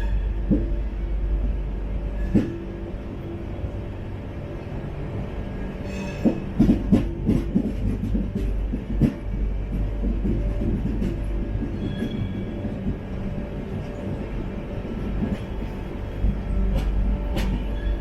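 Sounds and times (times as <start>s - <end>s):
train coach rumbling on rails: 0.0s - 18.0s.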